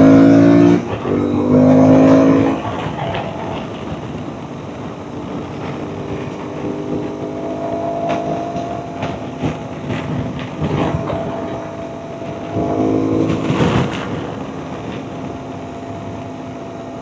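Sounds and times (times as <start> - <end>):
motorcycle engine cruising: 0.0 - 17.0
wind noise on microphone: 0.0 - 17.0.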